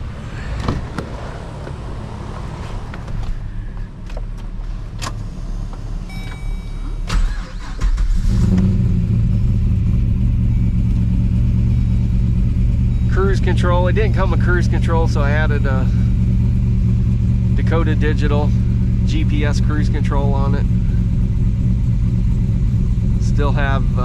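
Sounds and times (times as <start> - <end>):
v eight engine starting and running: 0.0 - 24.0.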